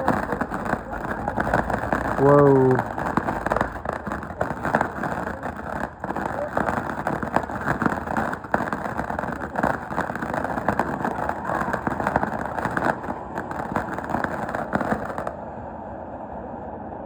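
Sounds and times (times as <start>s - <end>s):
fireworks crackling: 0.0s - 15.4s.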